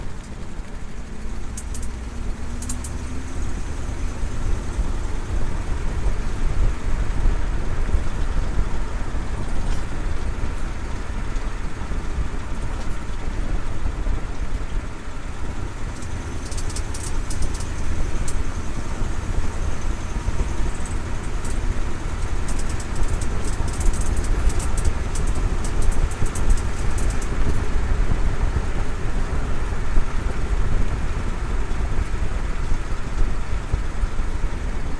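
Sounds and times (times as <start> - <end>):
car engine accelerating: 0.0 - 13.2, 14.2 - 34.9
quick engine tapping: 0.0 - 34.9
road noise: 0.0 - 34.9.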